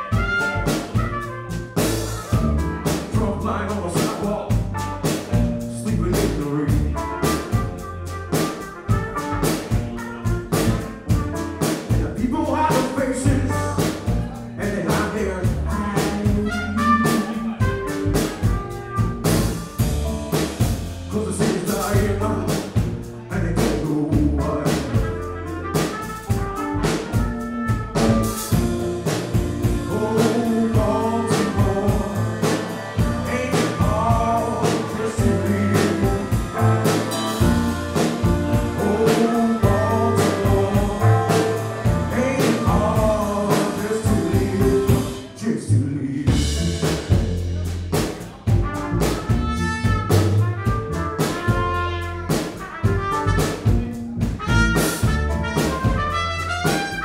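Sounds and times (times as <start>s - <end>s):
drums keeping a steady beat: 0.0s - 45.4s, 46.3s - 57.0s
live band playing: 0.0s - 45.5s, 46.1s - 57.0s.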